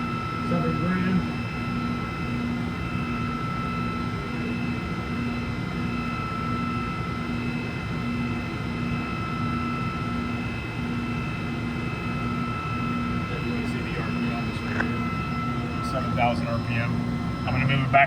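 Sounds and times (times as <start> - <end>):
machine spindle whining: 0.0 - 18.0
pulsing low tone: 0.0 - 18.0.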